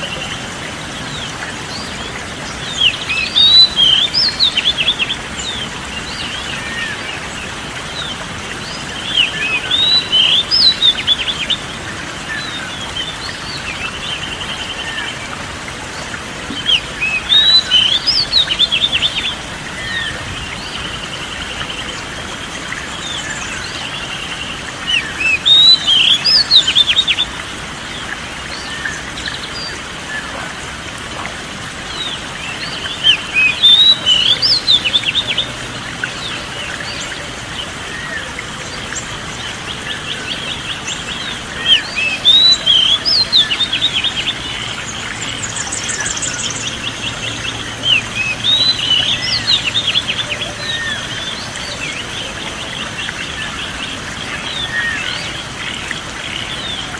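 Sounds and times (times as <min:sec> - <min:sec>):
songbird chirping song: 0:00.0 - 0:56.9.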